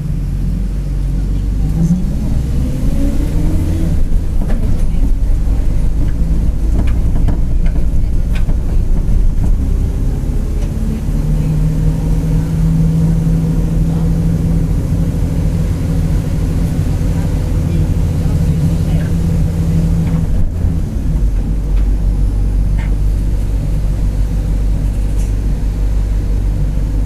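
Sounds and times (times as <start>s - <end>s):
bus diesel engine drone: 0.0s - 27.0s.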